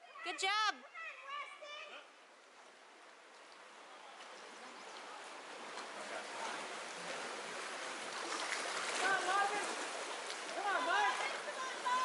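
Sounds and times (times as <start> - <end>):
river water rushing over riffles: 1.2 - 12.0.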